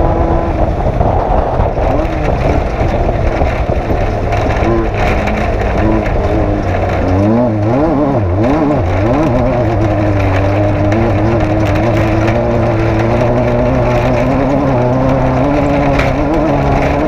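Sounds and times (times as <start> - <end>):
race vehicle engine running hard: 0.0 - 17.0.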